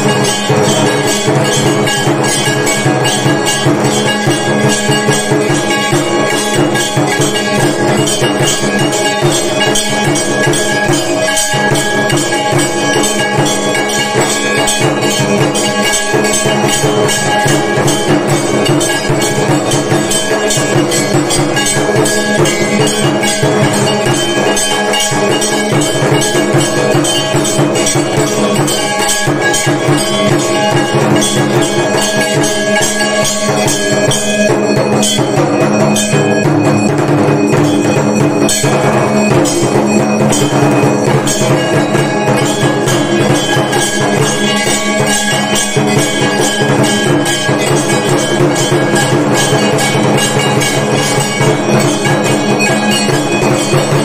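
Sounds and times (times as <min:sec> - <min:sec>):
bells and gongs clanging: 0:00.0 - 0:54.0
drumming: 0:00.0 - 0:54.0.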